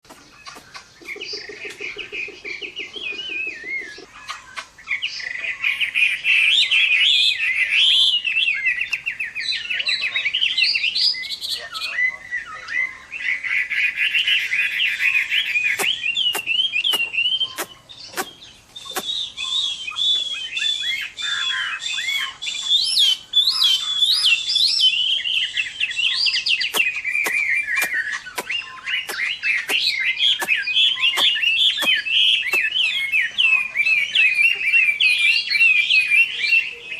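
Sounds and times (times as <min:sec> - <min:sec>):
bird singing whistled trills: 0:00.3 - 0:36.9.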